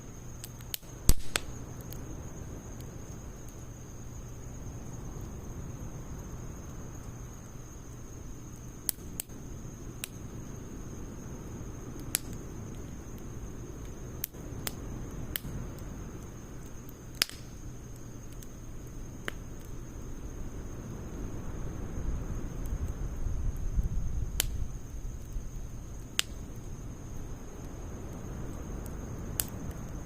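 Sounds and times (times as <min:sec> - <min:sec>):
fire popping: 0:00.0 - 0:30.0
wood fire crackling: 0:00.0 - 0:30.0.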